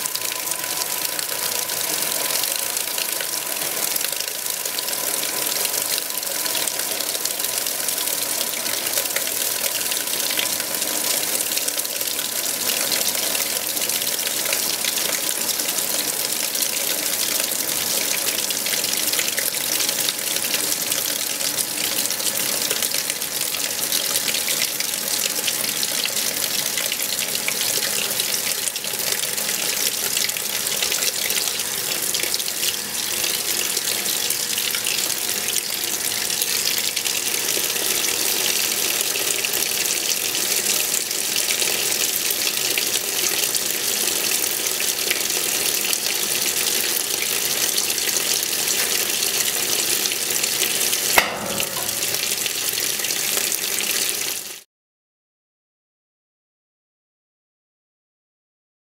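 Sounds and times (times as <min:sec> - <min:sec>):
water pouring into washer tub: 0:00.0 - 0:54.6.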